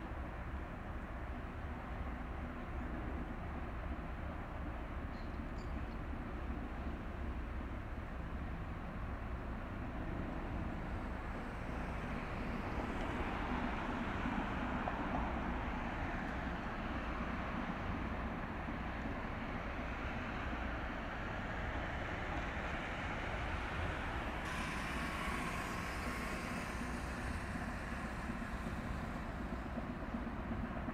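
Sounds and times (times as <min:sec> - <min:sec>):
ship engine low drone: 0:00.0 - 0:30.9.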